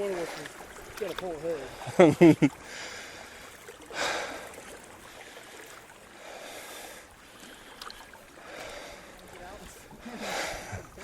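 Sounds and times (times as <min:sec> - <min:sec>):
flowing water: 0:00.0 - 0:11.0
paddle swishing through water: 0:00.0 - 0:11.0.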